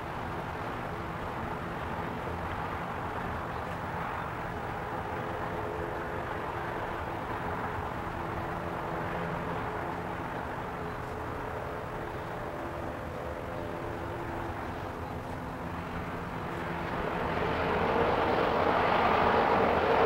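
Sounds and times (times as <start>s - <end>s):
engine drone: 0.0s - 20.0s
faint steady tones: 0.0s - 20.0s
noisy rush: 0.0s - 20.0s.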